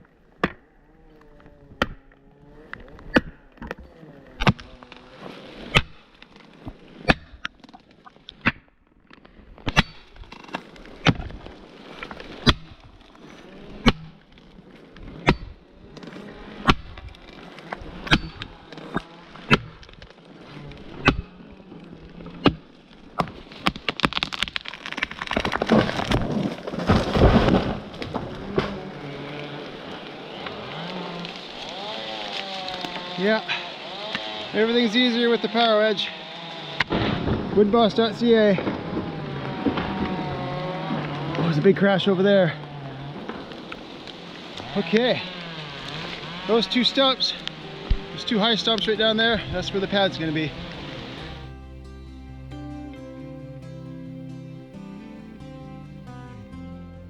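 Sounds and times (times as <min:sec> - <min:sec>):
tree cracking and falling: 0:00.0 - 0:51.9.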